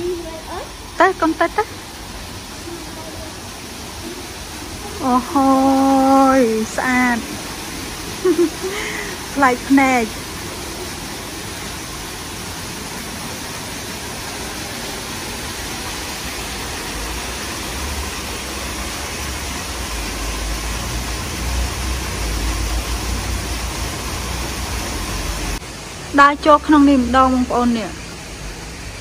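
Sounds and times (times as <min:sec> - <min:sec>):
small cascade splashing into lake: 0:01.5 - 0:26.1.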